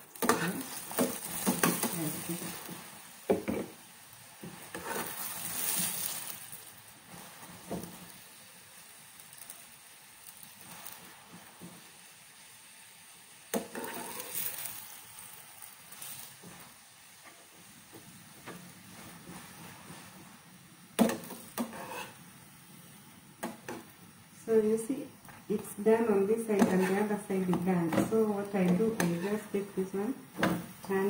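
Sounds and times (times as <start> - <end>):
chapati sizzling in oil: 0.0 - 31.0.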